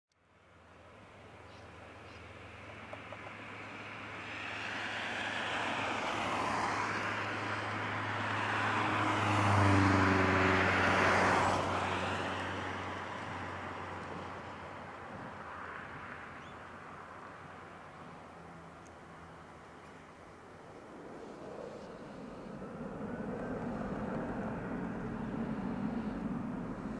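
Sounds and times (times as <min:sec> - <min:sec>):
vehicle engine passing by: 0:02.1 - 0:26.9.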